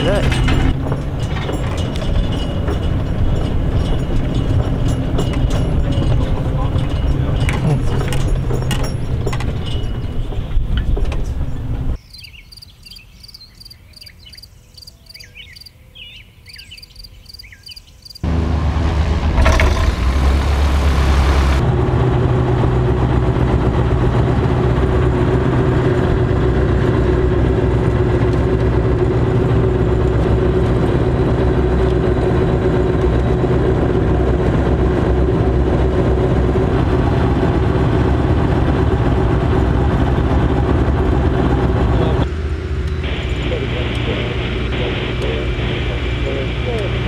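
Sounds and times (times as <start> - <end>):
engine running steadily: 0.0 - 12.0, 18.2 - 47.0.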